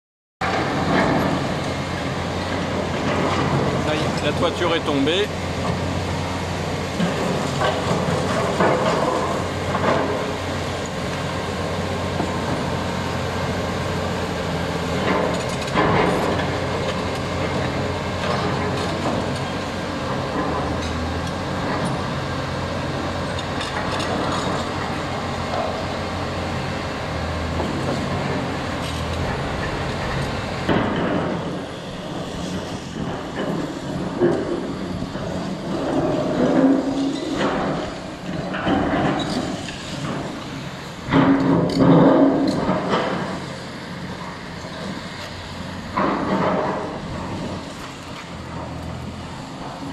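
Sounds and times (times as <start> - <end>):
excavator diesel engines running: 0.4 - 49.9.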